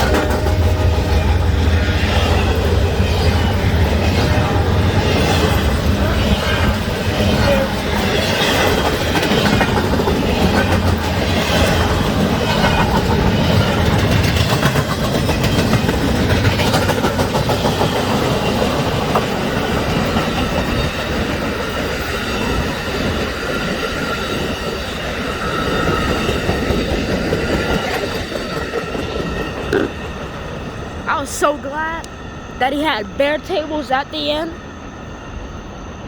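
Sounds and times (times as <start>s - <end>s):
freight train wheels rumbling on rails: 0.0s - 36.0s.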